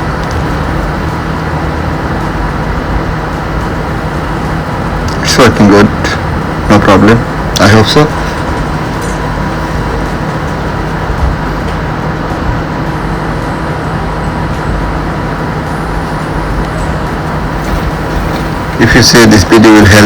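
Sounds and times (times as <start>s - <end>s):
ice maker mechanical hum: 0.0s - 20.0s.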